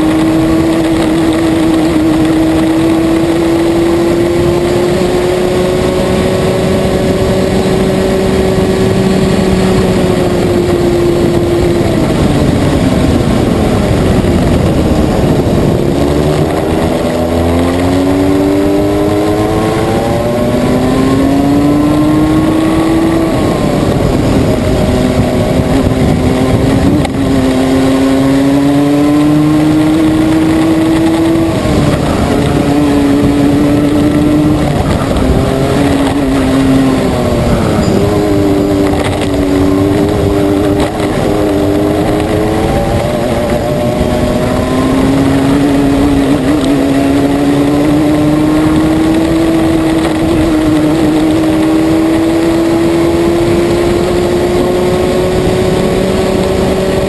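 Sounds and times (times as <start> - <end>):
racing kart engine revving: 0.0 - 57.0.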